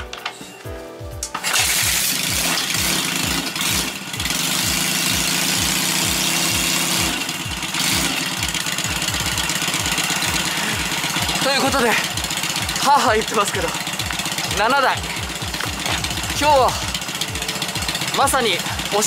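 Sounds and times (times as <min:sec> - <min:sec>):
motorcycle kick-started: 0:01.2 - 0:19.0
motorcycle engine idling: 0:01.4 - 0:19.0.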